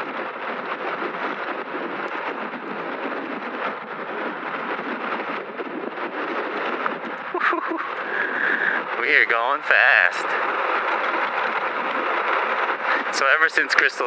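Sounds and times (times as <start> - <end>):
wind rushing: 0.0 - 14.0.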